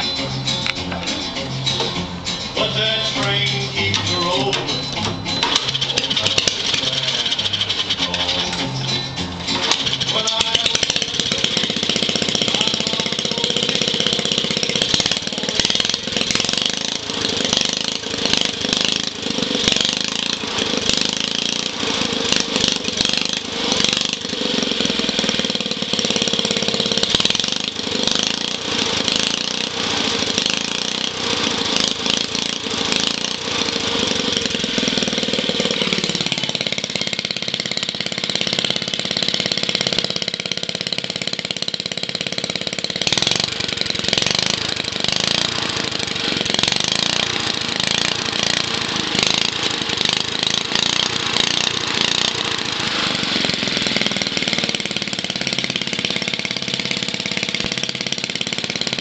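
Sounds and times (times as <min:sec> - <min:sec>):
single-cylinder engine running: 0:00.0 - 0:59.0.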